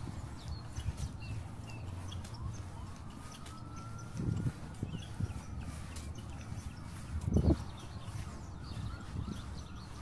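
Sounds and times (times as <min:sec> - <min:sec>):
distant siren: 0:00.0 - 0:10.0
footsteps on pavement: 0:00.0 - 0:10.0
small birds chirping: 0:00.0 - 0:10.0.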